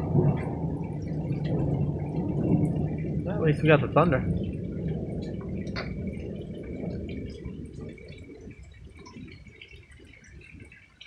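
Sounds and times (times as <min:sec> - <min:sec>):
rolling thunder: 0:00.0 - 0:09.7.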